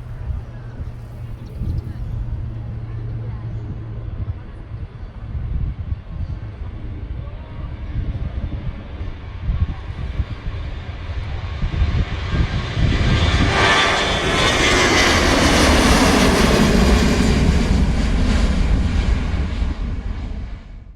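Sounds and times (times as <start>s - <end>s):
jet airliner engine roar: 0.0s - 20.9s.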